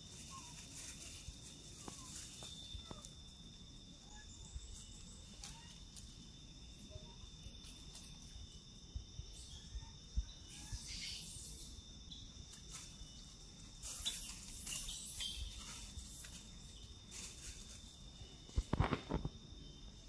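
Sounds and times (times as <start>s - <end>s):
faint chirps: 0.0s - 20.0s
insects droning: 0.0s - 20.0s.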